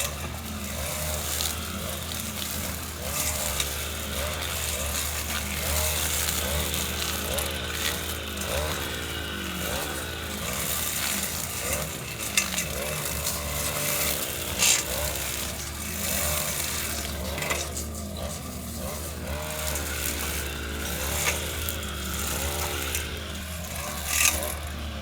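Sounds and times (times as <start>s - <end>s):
petrol lawnmower engine running: 0.0s - 25.0s.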